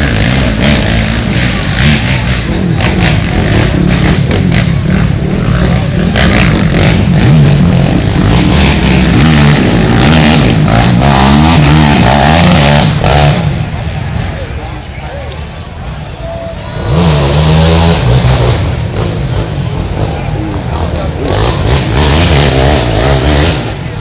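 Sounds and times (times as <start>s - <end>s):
racing atv engines revving: 0.0s - 24.0s.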